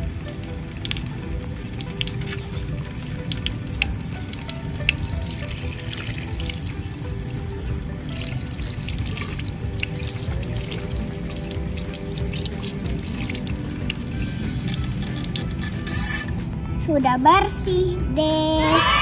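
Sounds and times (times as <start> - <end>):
hands rinsing under water: 0.0 - 16.1
tap water running into basin: 0.0 - 16.4
background music: 0.0 - 19.0.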